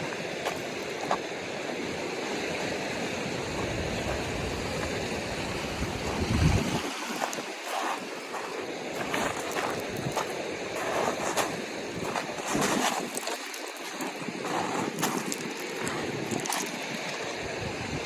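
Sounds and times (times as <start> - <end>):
ocean waves washing on shore: 0.0 - 18.0
wind buffeting microphone: 0.0 - 18.0.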